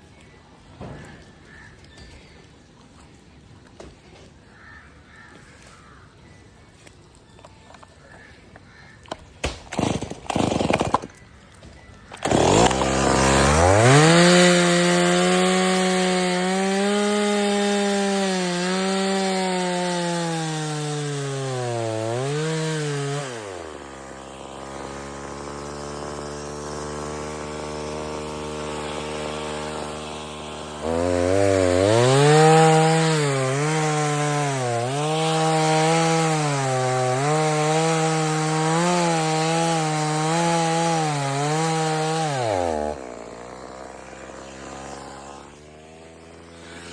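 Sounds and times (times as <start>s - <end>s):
chainsaw cutting wood: 9.1s - 46.9s.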